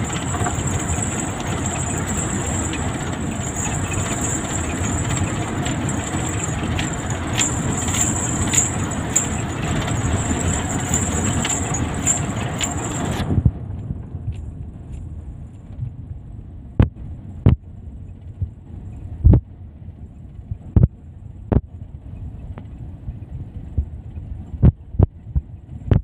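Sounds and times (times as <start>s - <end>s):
truck engine and tyre rumble: 0.0s - 26.0s.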